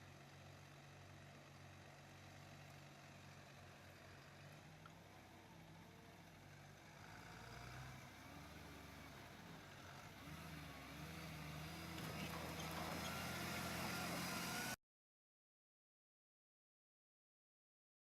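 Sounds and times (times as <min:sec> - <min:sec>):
skid steer engine running: 0:00.0 - 0:14.8.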